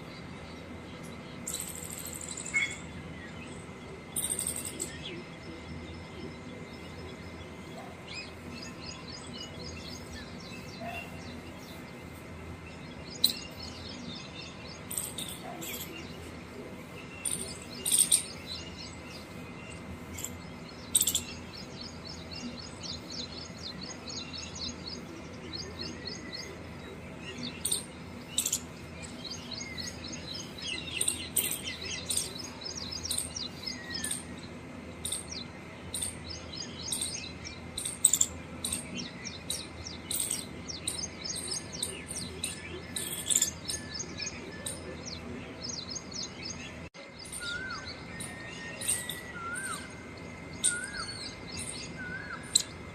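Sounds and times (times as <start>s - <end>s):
small birds chirping and trilling: 0.0s - 52.9s.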